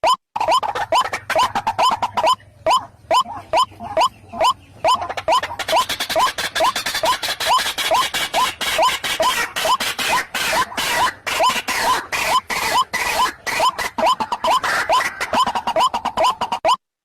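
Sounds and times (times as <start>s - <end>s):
waterhen calling: 0.0s - 16.8s.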